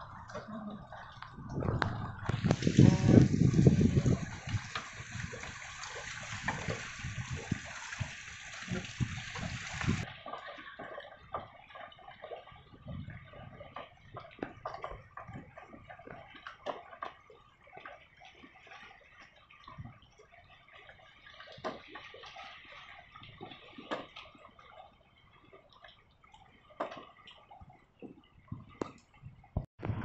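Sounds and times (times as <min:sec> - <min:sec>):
small drips and splashes: 0:00.0 - 0:29.7
water lapping and splashing: 0:00.0 - 0:30.0.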